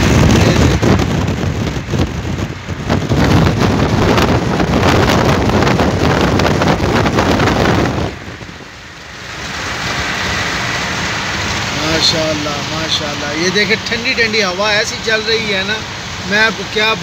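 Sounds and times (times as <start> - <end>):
road noise on wet highway: 0.0 - 17.0
wind buffeting microphone: 0.0 - 17.0.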